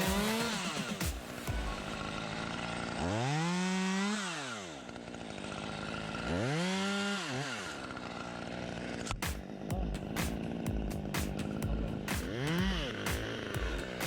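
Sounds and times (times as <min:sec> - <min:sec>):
chainsaw idling and revving: 0:00.0 - 0:14.0.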